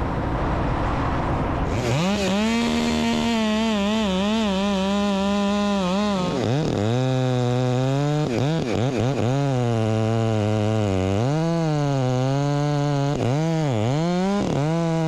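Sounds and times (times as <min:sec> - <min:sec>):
chainsaw running: 0:01.7 - 0:15.0.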